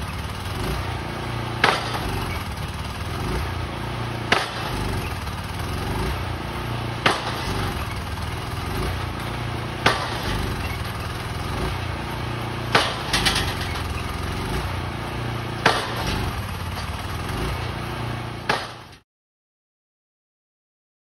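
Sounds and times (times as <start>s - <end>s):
pile driver engine running: 0.0s - 19.0s
pile driver hammer strikes: 0.1s - 19.0s.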